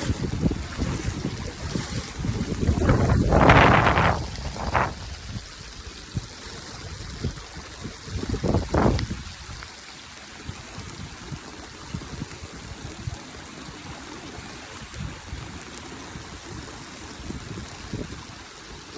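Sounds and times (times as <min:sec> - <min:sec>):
fast-flowing floodwater: 0:00.0 - 0:18.9.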